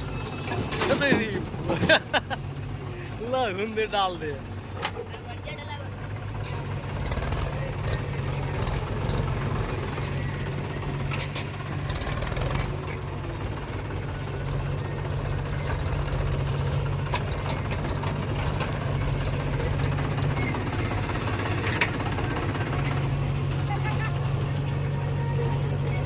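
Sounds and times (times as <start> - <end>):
diesel engine knocking clatter: 0.0 - 26.0.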